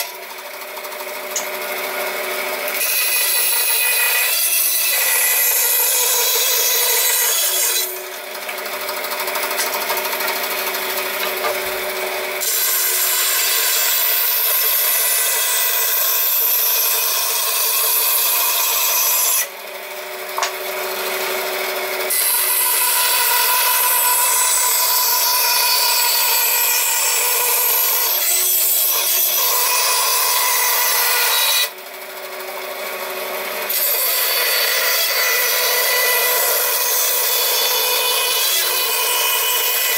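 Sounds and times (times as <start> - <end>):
power tool rasping wood: 0.0 - 19.6, 20.3 - 39.9.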